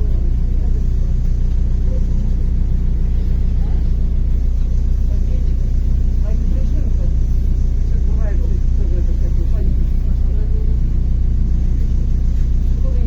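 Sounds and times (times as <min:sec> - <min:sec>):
bus engine rumble from inside: 0:00.0 - 0:13.0.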